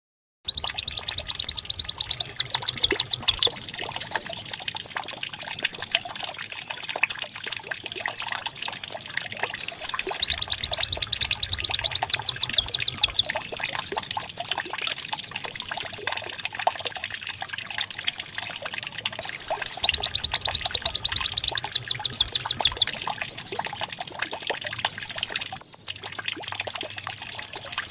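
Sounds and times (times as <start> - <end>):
bird song with chirps and whistles: 0.5 - 27.9.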